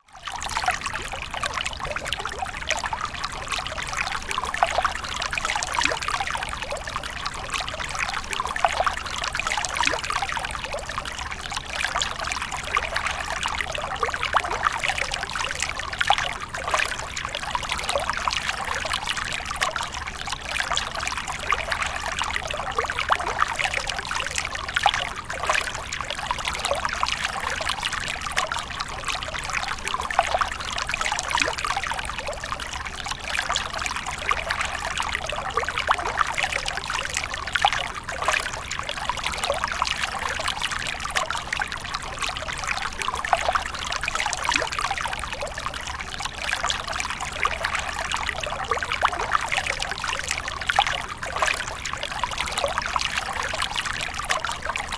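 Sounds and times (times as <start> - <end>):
water splashing and trickling: 0.0 - 54.9.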